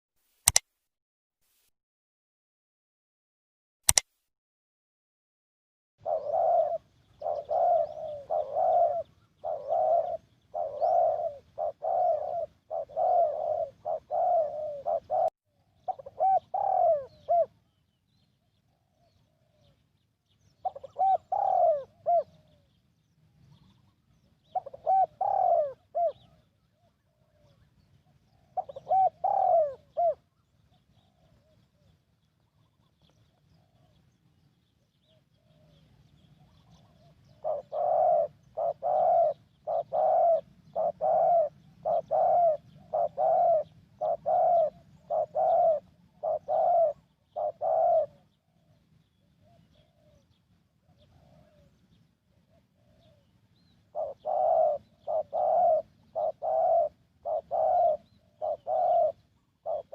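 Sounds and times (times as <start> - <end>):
dove cooing: 6.0 - 17.8, 18.6 - 34.2, 35.0 - 59.9.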